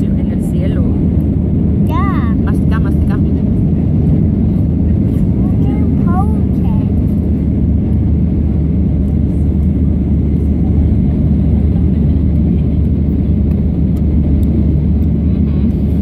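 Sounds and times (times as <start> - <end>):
airliner engines rumbling in cabin: 0.0 - 16.0.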